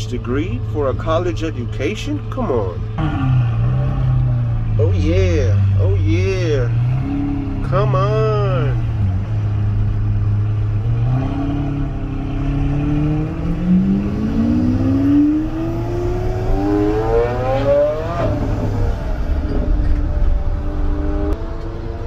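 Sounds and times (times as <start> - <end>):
sports car engine accelerating: 0.0 - 22.0.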